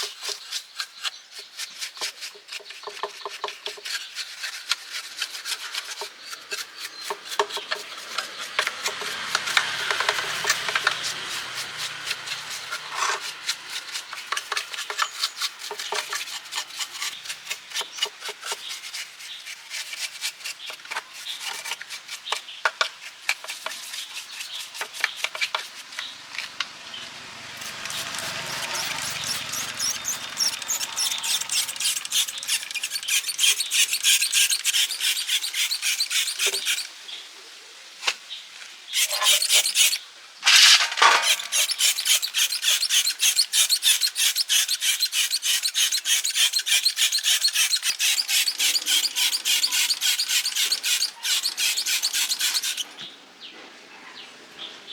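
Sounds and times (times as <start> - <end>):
rubbing strokes on hard surface: 0.0 - 22.4, 27.6 - 36.9, 39.0 - 52.9.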